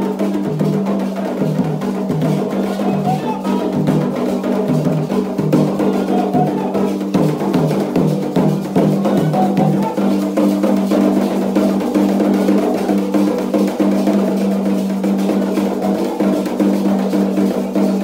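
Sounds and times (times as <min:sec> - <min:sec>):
hand drums beating fast rhythm: 0:00.0 - 0:18.0.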